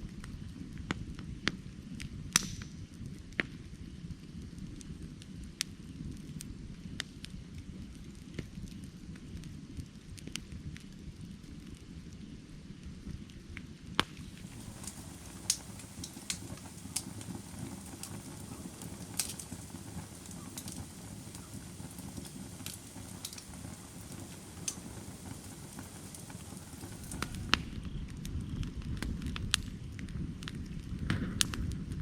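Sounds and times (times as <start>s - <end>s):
low rumble of flames: 0.0s - 32.0s
wood crackling and popping: 0.0s - 32.0s.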